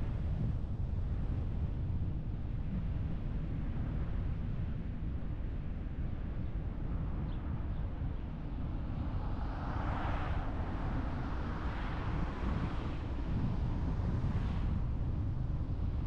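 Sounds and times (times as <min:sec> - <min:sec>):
car wind and road noise: 0:00.0 - 0:16.0.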